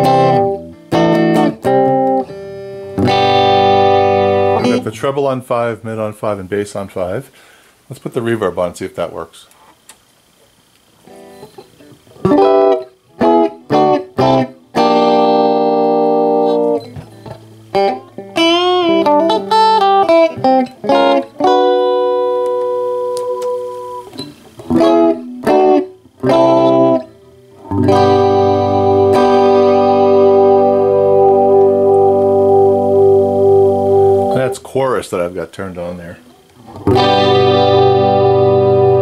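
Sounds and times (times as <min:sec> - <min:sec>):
electric guitar with reverb: 0:00.0 - 0:05.3, 0:11.0 - 0:34.8, 0:36.0 - 0:39.0.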